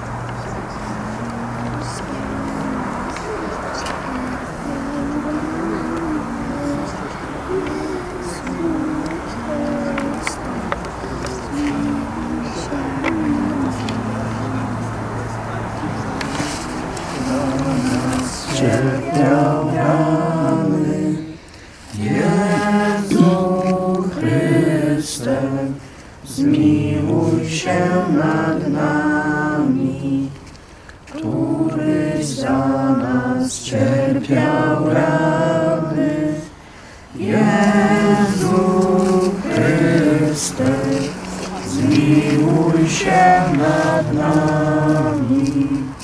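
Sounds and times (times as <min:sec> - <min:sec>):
group singing a hymn: 0:00.0 - 0:46.0.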